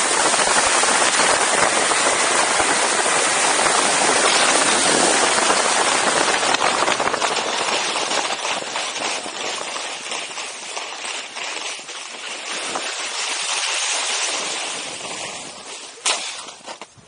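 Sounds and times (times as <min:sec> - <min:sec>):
rushing wind on microphone: 0:00.0 - 0:17.0.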